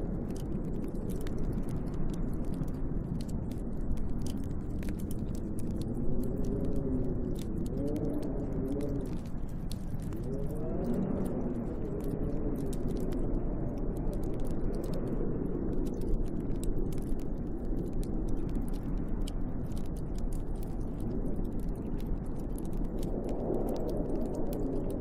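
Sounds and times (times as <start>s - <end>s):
snowstorm wind howling: 0.0s - 25.0s
wood fire crackling: 0.0s - 25.0s.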